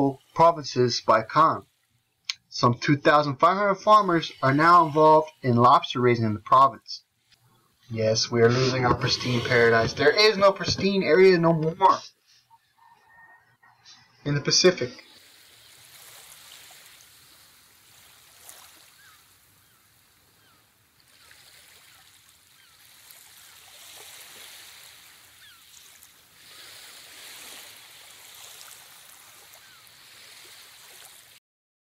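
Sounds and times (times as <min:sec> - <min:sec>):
faint ocean surf: 0:00.0 - 0:31.4.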